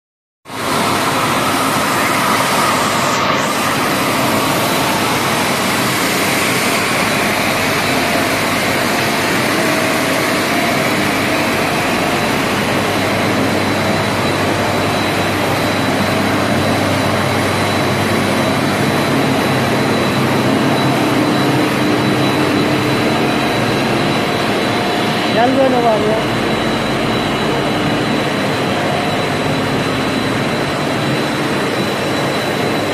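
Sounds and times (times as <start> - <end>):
machine drone: 0.5 - 32.9
thin high whine: 0.5 - 32.9.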